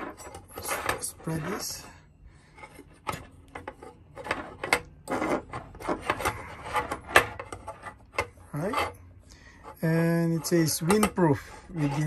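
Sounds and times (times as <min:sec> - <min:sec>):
metal clicks and scrapes: 0:00.0 - 0:01.8, 0:02.5 - 0:12.0.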